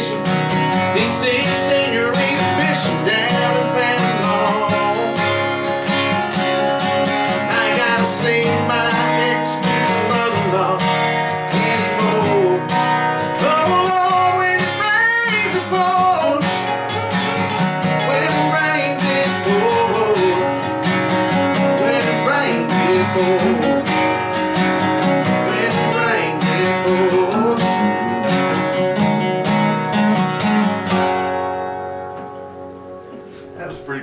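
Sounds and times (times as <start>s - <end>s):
man singing: 0.0s - 5.7s, 7.1s - 16.8s, 17.8s - 30.7s
acoustic guitars strumming: 0.0s - 34.0s.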